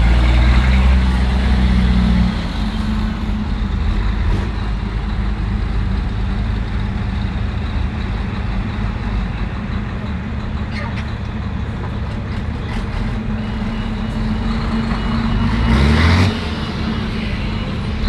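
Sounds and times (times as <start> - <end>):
heavy truck engines running: 0.0 - 18.0.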